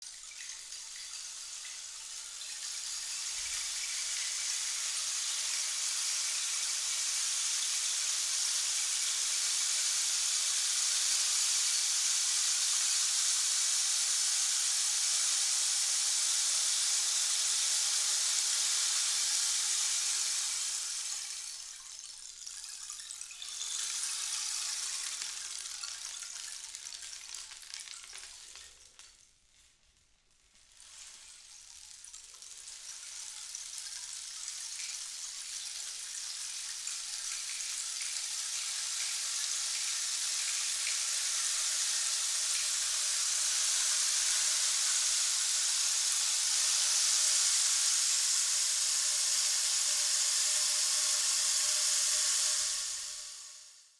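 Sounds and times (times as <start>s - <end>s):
rain stick trickling hiss: 0.0s - 53.9s.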